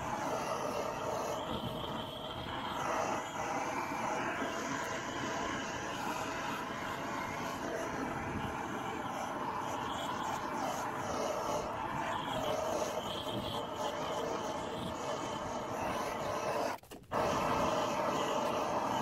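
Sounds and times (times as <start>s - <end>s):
gas torch roaring: 0.0s - 19.0s.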